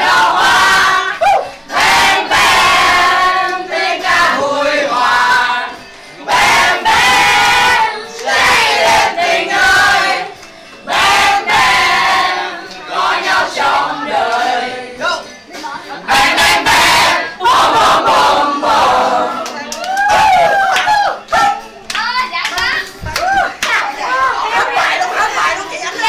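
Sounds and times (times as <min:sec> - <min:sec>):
group singing and shouting: 0:00.0 - 0:26.0.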